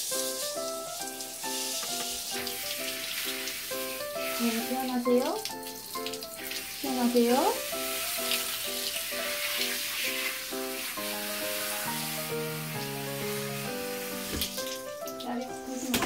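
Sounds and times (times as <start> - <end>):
background music: 0.0 - 16.0
shower head spraying water: 0.0 - 16.0.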